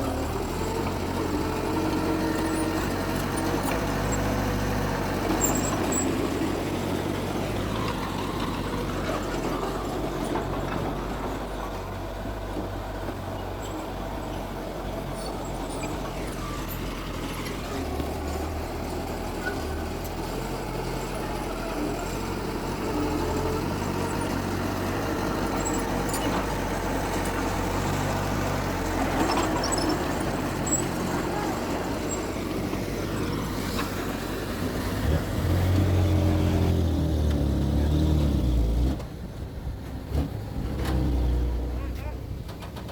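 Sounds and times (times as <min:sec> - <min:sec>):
diesel machinery engines running: 0:00.0 - 0:42.9.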